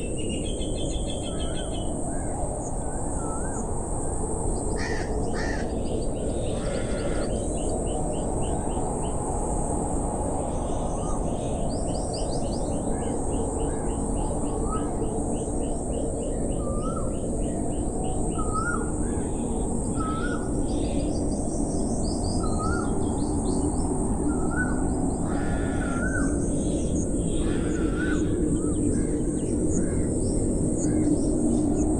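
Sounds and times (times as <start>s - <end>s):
constant high hiss: 0.0s - 31.9s.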